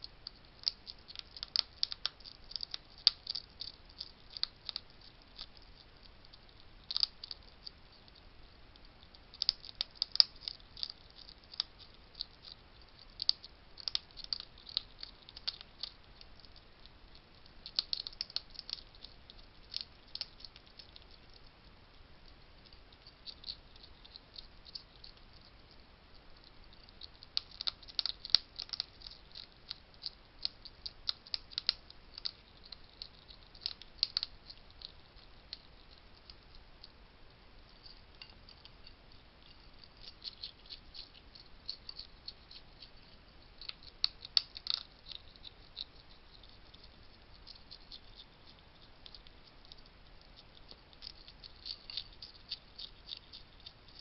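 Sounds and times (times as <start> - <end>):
hedgehogs crunching dry food: 0.0 - 54.0.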